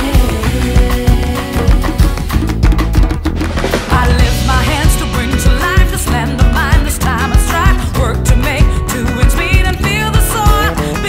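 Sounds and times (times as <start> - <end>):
percussion beat: 0.0 - 10.8
acoustic guitar: 0.0 - 11.0
bass: 0.0 - 11.0.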